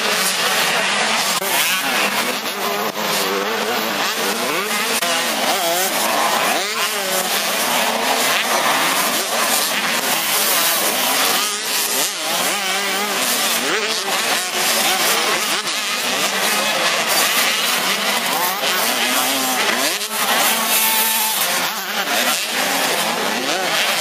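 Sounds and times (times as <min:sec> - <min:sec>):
two-stroke motocross bikes racing: 0:00.0 - 0:24.0.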